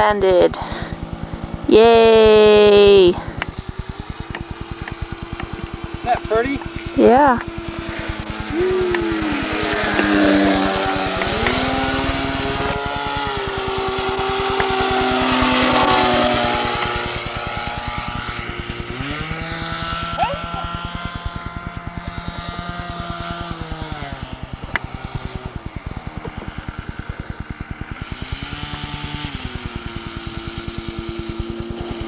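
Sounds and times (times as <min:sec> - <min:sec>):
model plane engine revving: 0:00.0 - 0:32.0.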